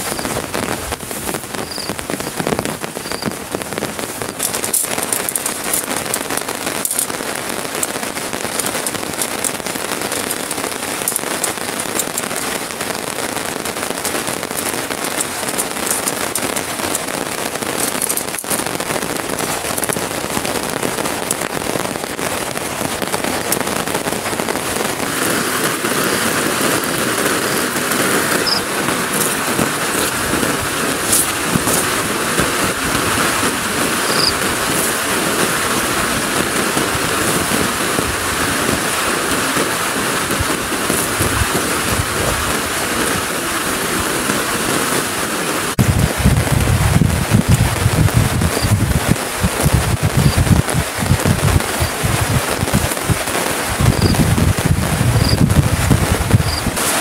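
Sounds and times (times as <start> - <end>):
heavy rain on a tarp: 0.0 - 57.0.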